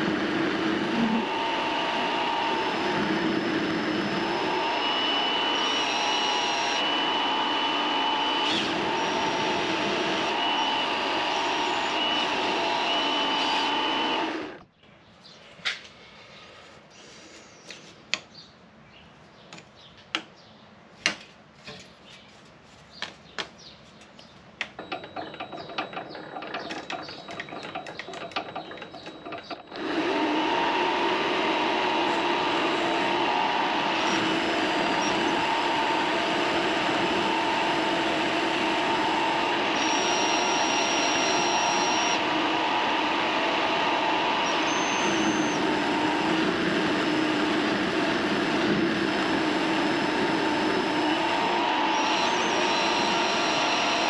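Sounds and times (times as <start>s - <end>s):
lathe motor humming: 0.0s - 14.6s, 24.8s - 54.0s.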